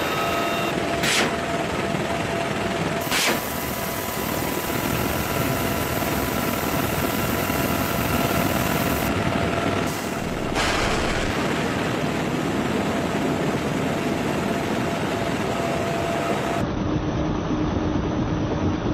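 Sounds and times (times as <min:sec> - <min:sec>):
helicopter rotor and airflow rush: 0:00.0 - 0:18.9
turbine whine: 0:00.0 - 0:18.9.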